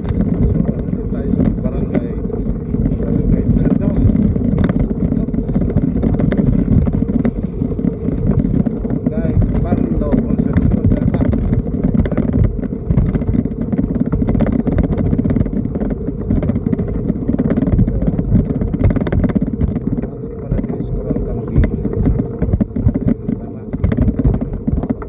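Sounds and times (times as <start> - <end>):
pedicab rumbling and rattling: 0.0 - 25.0.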